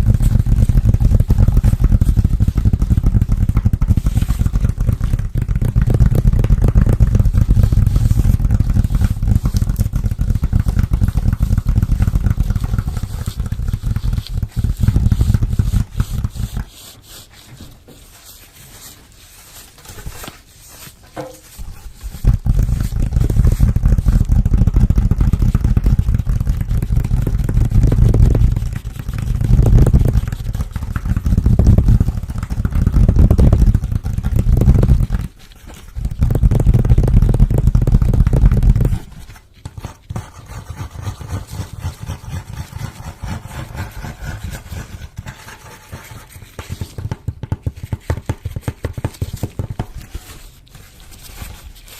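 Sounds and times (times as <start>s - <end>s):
fingers scratching and tapping: 0.0s - 51.9s.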